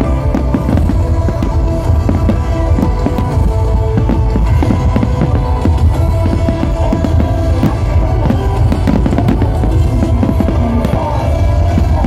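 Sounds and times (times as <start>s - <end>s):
firework bangs and crackles: 0.0s - 12.0s
show music with heavy bass: 0.0s - 12.0s.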